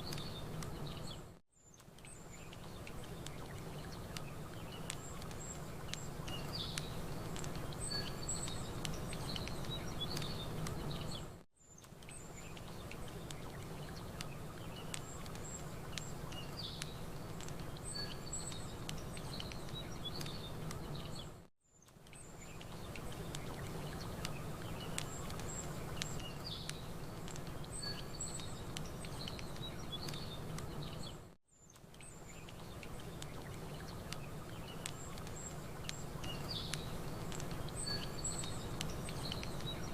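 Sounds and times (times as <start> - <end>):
campfire crackling: 0.0 - 39.9
small birds chirping: 0.0 - 39.9.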